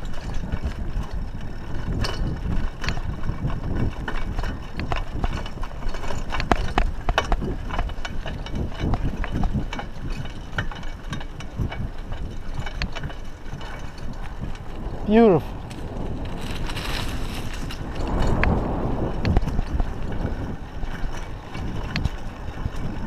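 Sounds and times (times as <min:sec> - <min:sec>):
bike clicks and rattles: 0:00.0 - 0:23.0
wind buffeting microphone: 0:00.0 - 0:23.0.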